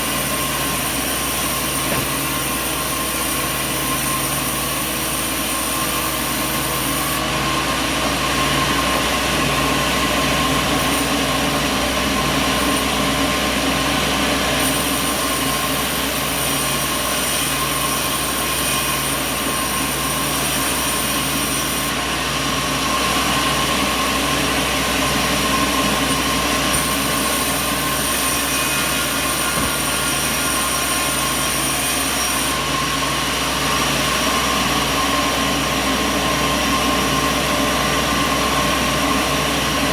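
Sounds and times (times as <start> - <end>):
constant mechanical whine: 0.0 - 39.9
sawmill machinery running: 0.0 - 39.9.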